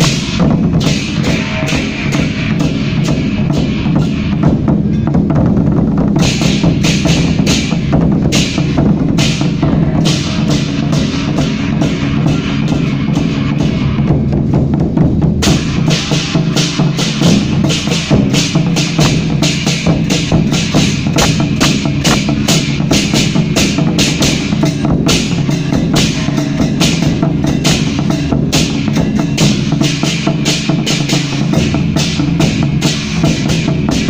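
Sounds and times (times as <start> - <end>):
cymbal clashes: 0.0 - 34.0
drums beating: 0.0 - 34.0.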